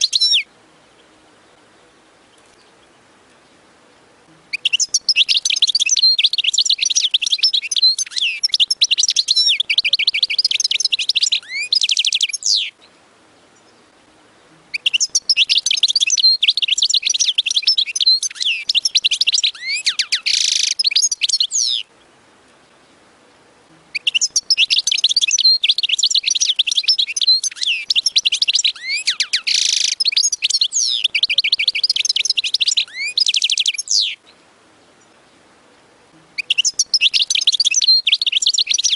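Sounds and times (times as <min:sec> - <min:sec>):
finch twittering song: 0:00.0 - 0:38.9.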